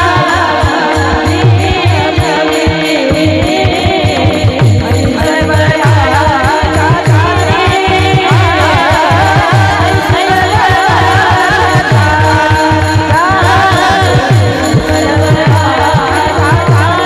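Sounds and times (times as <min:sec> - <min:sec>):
drum beating: 0:00.0 - 0:17.0
harmonium drone: 0:00.0 - 0:17.0
jingling percussion: 0:00.0 - 0:17.0
women singing devotional melody: 0:00.0 - 0:17.0.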